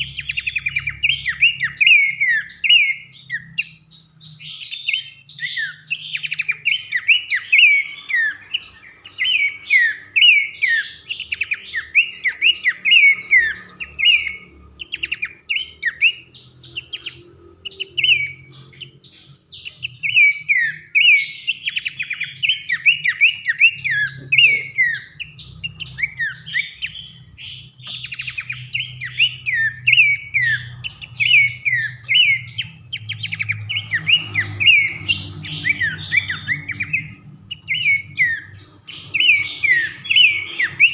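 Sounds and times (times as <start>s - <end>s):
bird chattering: 0.0s - 40.9s
bird singing shrill whistled notes: 0.0s - 40.9s.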